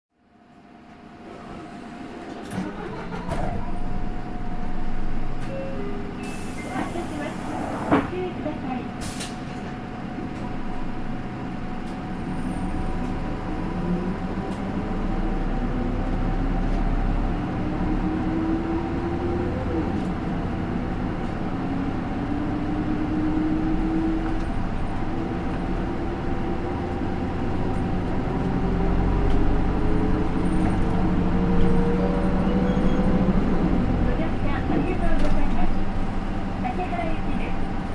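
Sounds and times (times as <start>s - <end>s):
bus engine accelerating: 0.3s - 37.9s.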